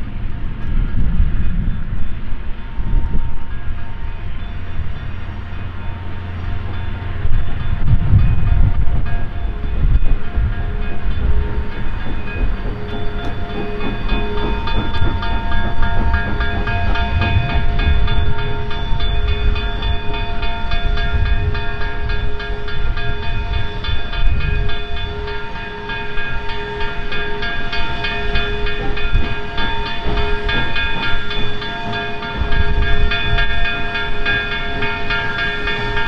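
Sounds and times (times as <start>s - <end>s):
steam locomotive rumble: 0.0s - 36.0s
evenly struck ringing bell: 2.6s - 36.0s.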